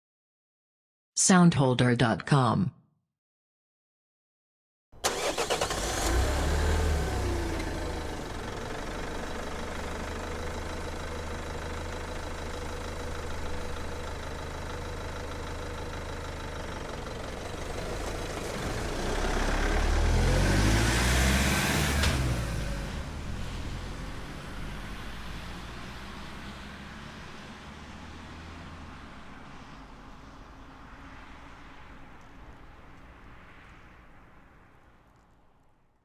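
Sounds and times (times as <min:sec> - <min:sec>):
diesel van engine: 0:05.0 - 0:35.7.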